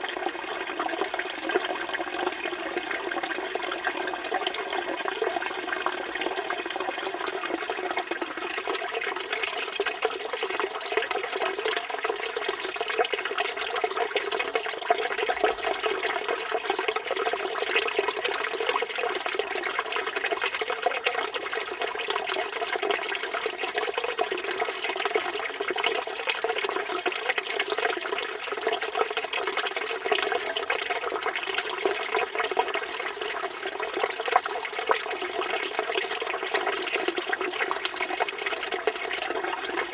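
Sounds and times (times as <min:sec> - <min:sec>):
fountain water splashing into trough: 0:00.0 - 0:39.9.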